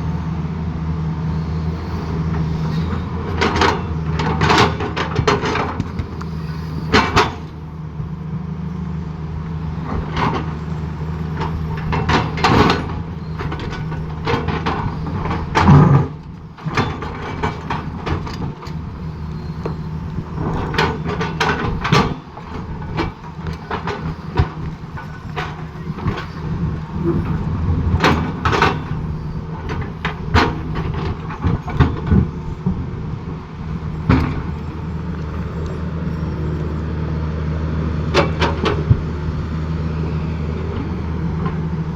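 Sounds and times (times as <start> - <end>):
diesel engine running under load: 0.0 - 41.9
excavator bucket clanking on road: 2.0 - 7.7, 9.6 - 37.2, 37.8 - 41.9.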